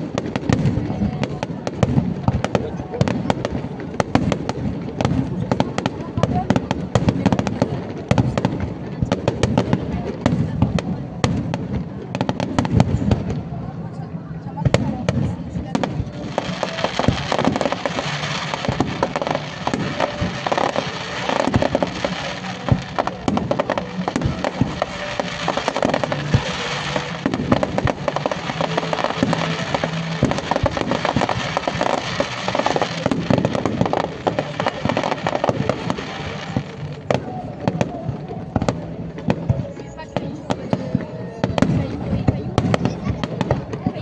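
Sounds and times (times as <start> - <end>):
fireworks crackling and banging: 0.0 - 44.0
music playing: 0.0 - 44.0.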